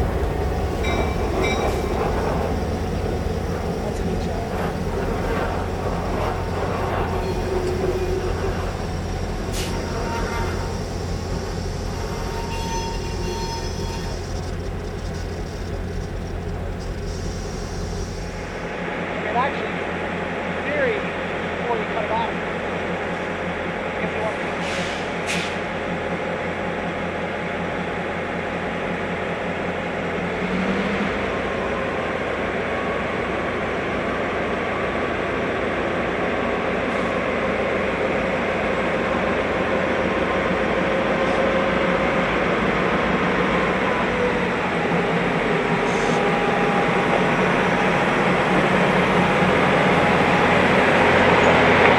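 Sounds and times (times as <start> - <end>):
diesel locomotive low drone: 0.0 - 51.9.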